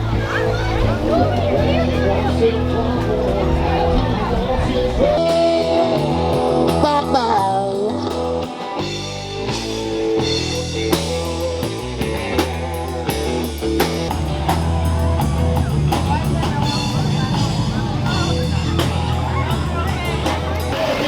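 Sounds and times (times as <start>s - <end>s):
rock music with guitar and drums: 0.0s - 21.0s.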